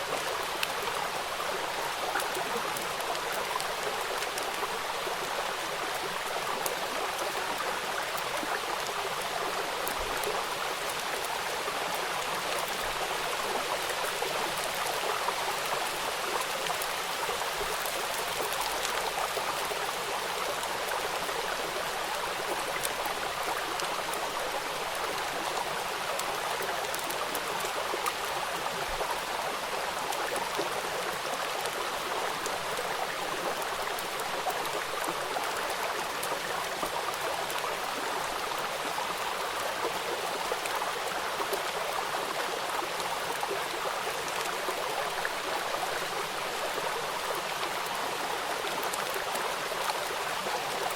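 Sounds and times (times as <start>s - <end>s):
rain hissing on river: 0.0s - 50.9s.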